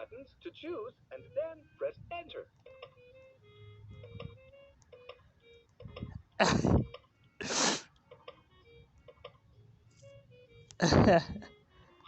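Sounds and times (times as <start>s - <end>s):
toy phone electronic beeps: 0.0s - 10.8s, 11.5s - 12.0s.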